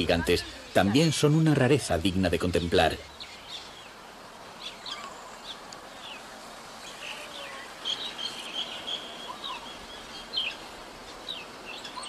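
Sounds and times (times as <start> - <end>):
birds chirping: 0.0 - 12.0
faint outdoor hiss: 0.0 - 12.0.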